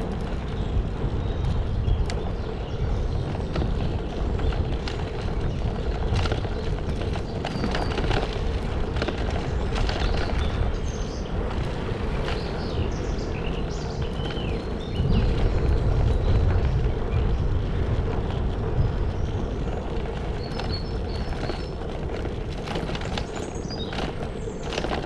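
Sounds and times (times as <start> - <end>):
birds chirping: 0.0 - 25.0
footsteps on woodland path: 0.0 - 25.0
wind rumbling on microphone: 0.0 - 25.0.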